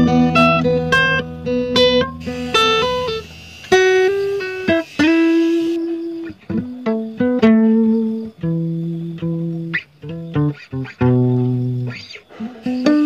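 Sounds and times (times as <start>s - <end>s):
guitar picking melody: 0.0s - 13.0s.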